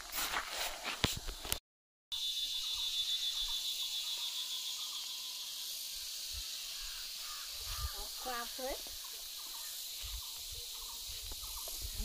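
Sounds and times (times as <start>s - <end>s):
insects trilling: 2.1s - 12.0s.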